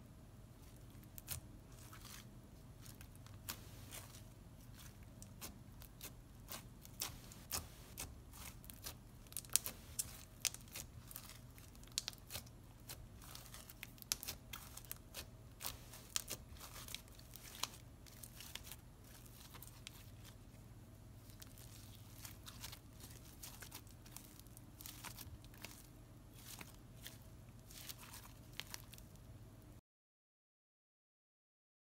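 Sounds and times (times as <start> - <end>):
slime crackling and popping: 0.9 - 20.4, 21.2 - 29.1.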